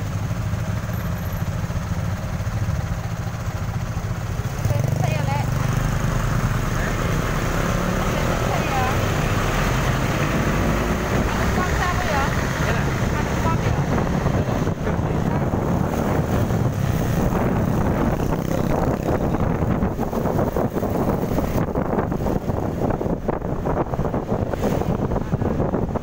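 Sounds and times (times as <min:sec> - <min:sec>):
motorcycle engine rumble: 0:00.0 - 0:26.0
road noise: 0:00.0 - 0:26.0
wind buffeting microphone: 0:04.0 - 0:26.0.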